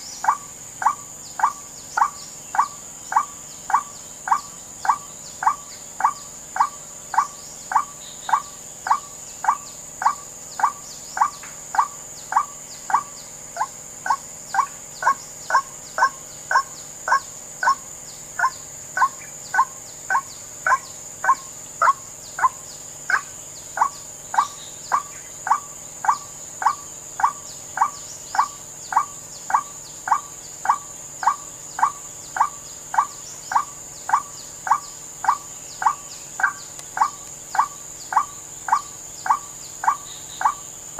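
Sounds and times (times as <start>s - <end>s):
high-pitched insect drone: 0.0s - 40.9s.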